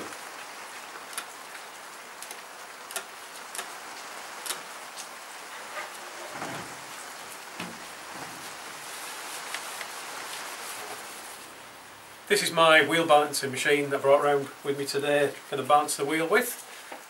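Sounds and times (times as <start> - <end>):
heavy rain on roof: 0.0 - 17.0.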